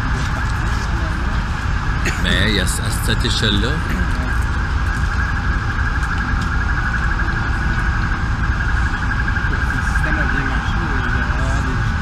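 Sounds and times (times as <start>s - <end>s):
city street rumble: 0.0s - 12.0s
rapidly pulsing electronic alarm: 0.0s - 12.0s.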